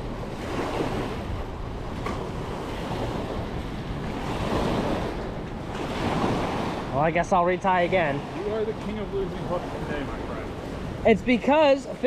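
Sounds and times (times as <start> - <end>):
small waves washing onto shore: 0.0 - 12.0
wind buffeting microphone: 0.0 - 12.0.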